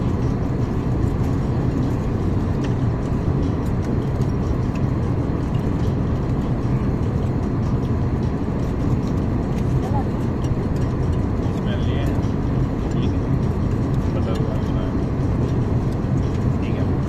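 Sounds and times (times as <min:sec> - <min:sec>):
airliner engines droning: 0:00.0 - 0:17.0.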